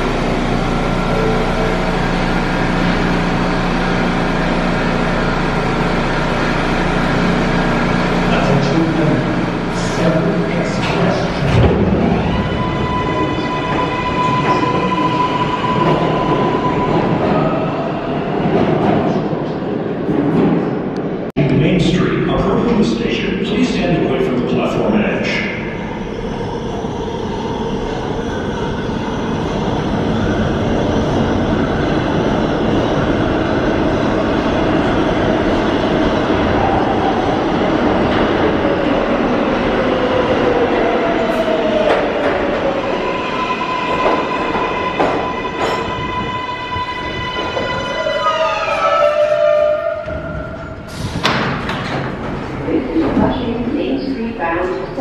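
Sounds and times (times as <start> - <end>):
train high whine: 0.0 - 19.6, 23.8 - 55.0
subway train rumbling over rails: 0.0 - 55.0.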